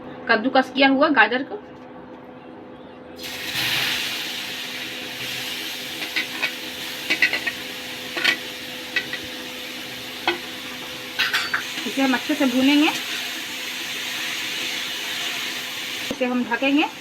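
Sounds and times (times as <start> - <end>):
food sizzling in hot fat: 3.2 - 17.0.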